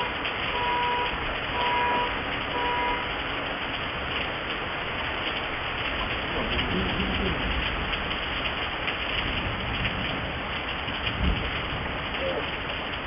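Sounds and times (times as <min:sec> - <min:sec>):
raindrops ticking on surfaces: 0:00.0 - 0:13.0
steady rain: 0:00.0 - 0:13.0.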